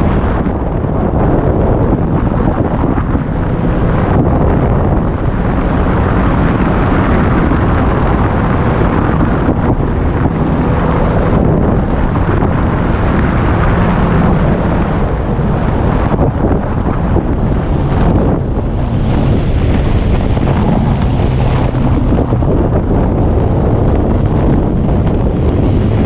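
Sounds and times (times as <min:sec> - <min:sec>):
motorcycle engine: 0:00.0 - 0:26.0
wind buffeting microphone: 0:00.0 - 0:26.0.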